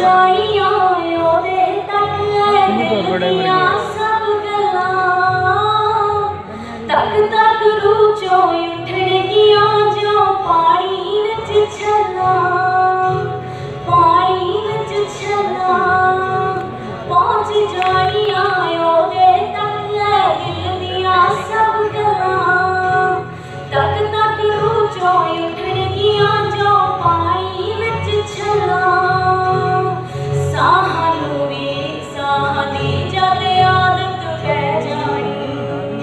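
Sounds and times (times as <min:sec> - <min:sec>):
woman singing into a microphone: 0:00.0 - 0:36.0.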